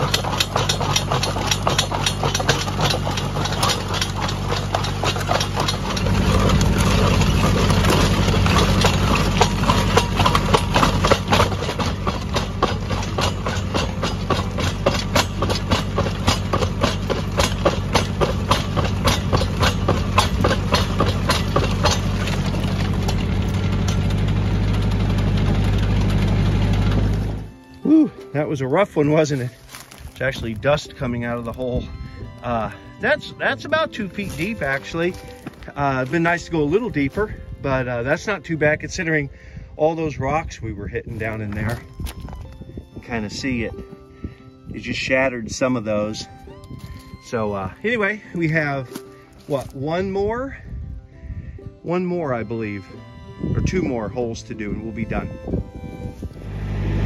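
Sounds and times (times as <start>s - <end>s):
auger bit grinding rocks: 0.0s - 39.2s, 39.8s - 50.8s, 51.9s - 57.0s
tractor engine running: 0.0s - 50.7s, 51.6s - 57.0s.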